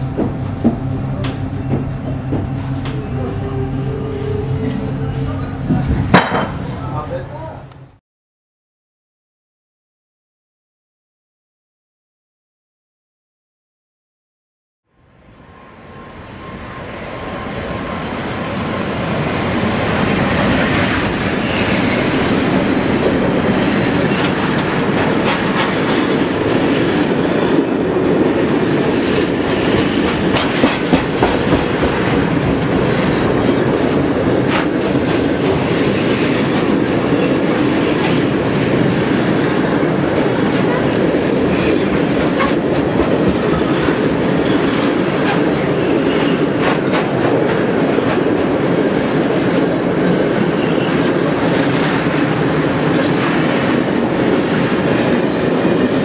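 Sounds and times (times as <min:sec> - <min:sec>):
freight train passing: 0:00.0 - 0:08.0, 0:14.9 - 0:56.0.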